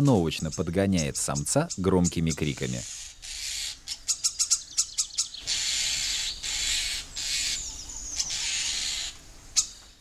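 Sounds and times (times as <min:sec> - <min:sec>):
starling clicking chirps: 0:00.1 - 0:09.9.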